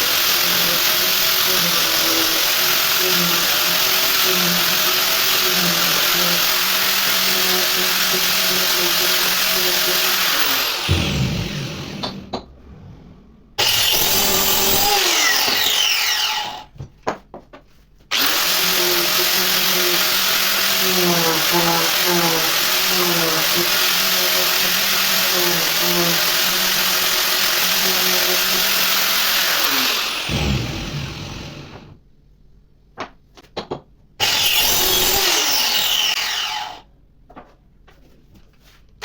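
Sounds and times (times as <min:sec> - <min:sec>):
electric power tool running: 0:00.0 - 0:12.2, 0:13.6 - 0:16.7, 0:18.1 - 0:32.0, 0:34.2 - 0:36.8.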